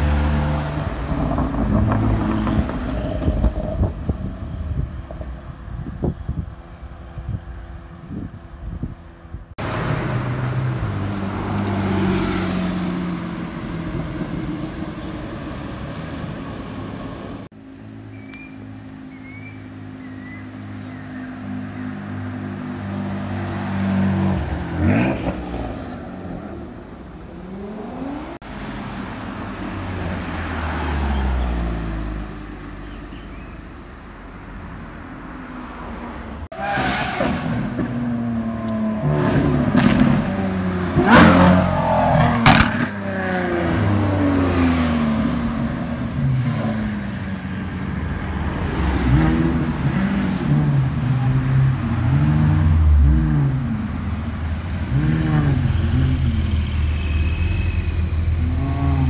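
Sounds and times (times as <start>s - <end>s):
cars revving and driving past: 0.0s - 59.0s.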